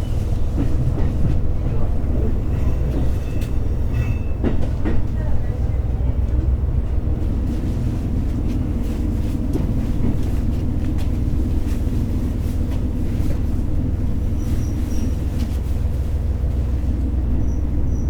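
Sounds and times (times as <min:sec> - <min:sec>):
railcar engine rumble: 0:00.0 - 0:18.0.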